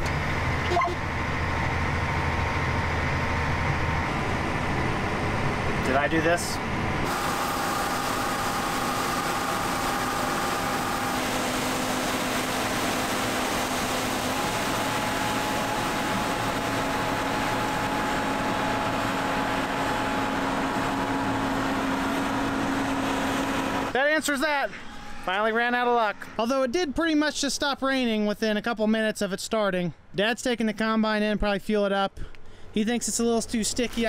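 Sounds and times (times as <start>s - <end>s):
cab fan: 0.0s - 27.7s.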